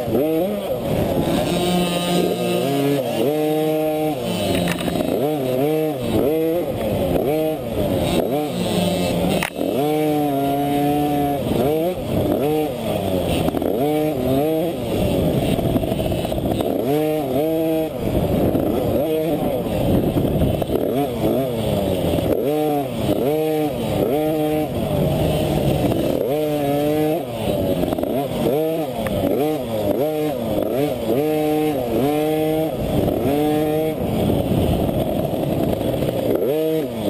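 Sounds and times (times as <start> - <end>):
two-stroke dirt bike engine revving: 0.0 - 37.0.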